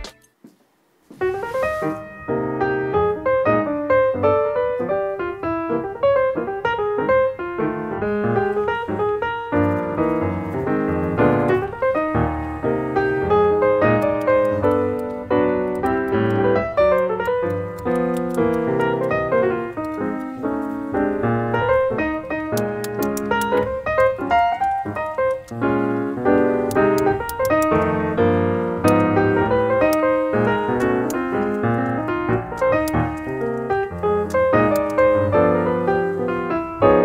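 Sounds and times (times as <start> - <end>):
piano music: 0.0 - 0.2, 1.2 - 37.0.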